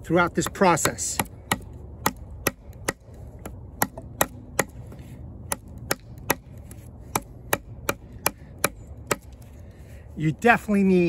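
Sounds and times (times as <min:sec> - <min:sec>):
knife chopping wood: 0:00.2 - 0:09.5.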